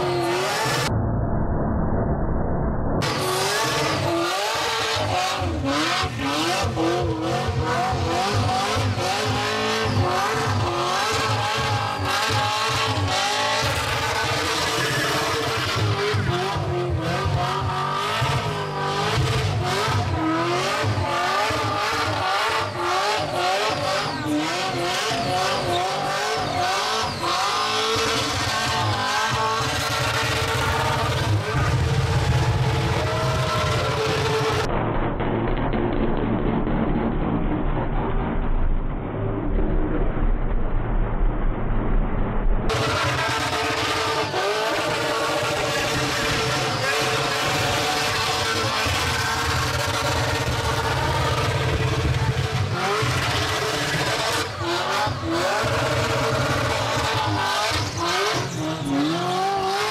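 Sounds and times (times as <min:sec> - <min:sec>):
car engine revving: 0:00.0 - 0:00.9, 0:03.0 - 0:40.5, 0:42.7 - 0:59.9.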